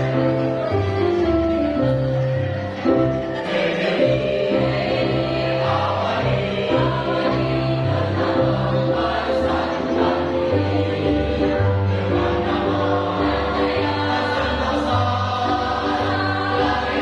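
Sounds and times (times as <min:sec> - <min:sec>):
choir singing in parts: 0:02.7 - 0:17.0.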